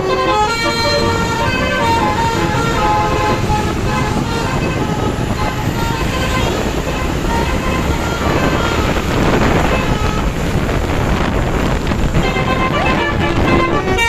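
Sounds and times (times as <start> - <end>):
bus multi-tone horn: 0.0 - 14.0
wind and road noise: 0.0 - 14.0.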